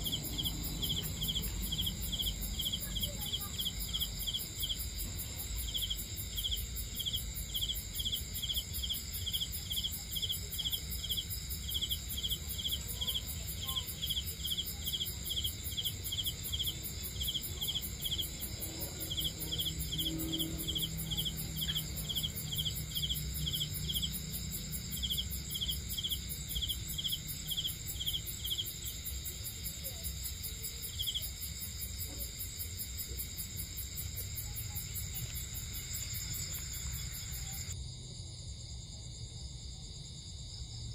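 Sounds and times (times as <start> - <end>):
insects buzzing trill: 0.0 - 37.8
cricket chirping: 0.0 - 40.9.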